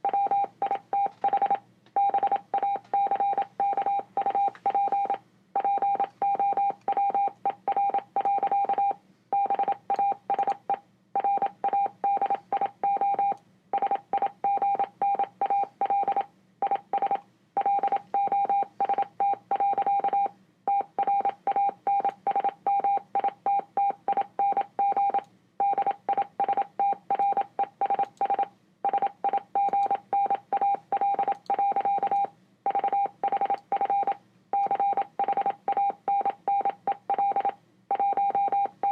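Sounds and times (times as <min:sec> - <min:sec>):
morse code beeps: 0:00.0 - 0:10.6, 0:11.2 - 0:38.9.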